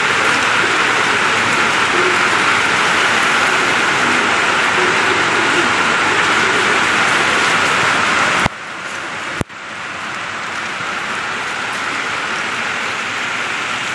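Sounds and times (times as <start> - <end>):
heavy rain on a rooftop: 0.0 - 13.9.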